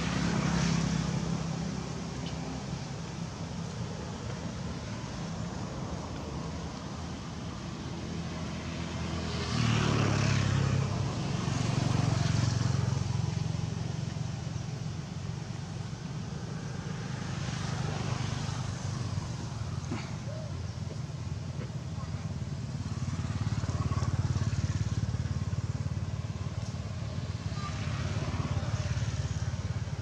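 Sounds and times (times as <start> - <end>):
vehicle engine passing by: 0.0 - 5.2, 7.9 - 15.6, 16.2 - 30.0.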